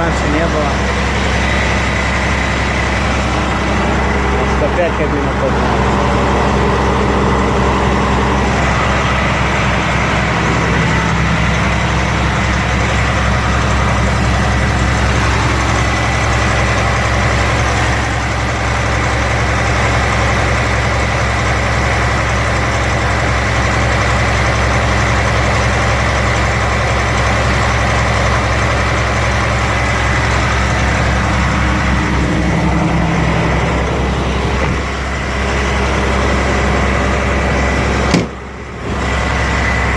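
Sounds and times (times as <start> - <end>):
diesel engine running at raised revs: 0.0 - 39.9.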